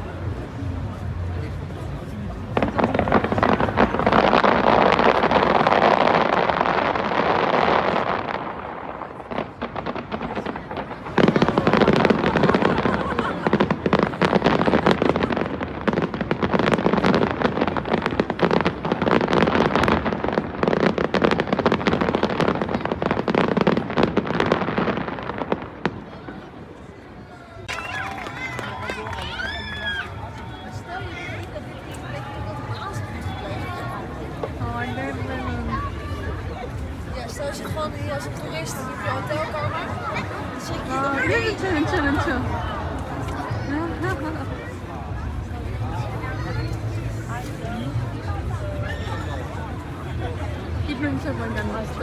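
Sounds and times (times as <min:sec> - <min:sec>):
fireworks banging and crackling: 0:00.0 - 0:48.8.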